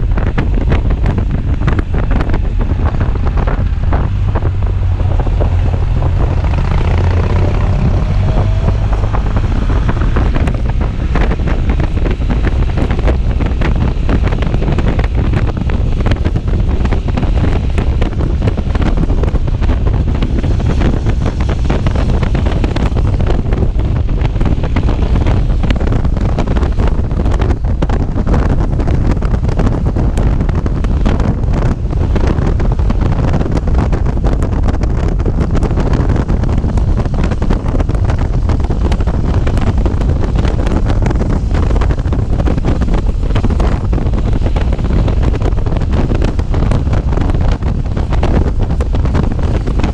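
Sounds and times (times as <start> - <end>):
low rumble: 0.0 - 49.9
wind buffeting on microphone: 0.0 - 49.9.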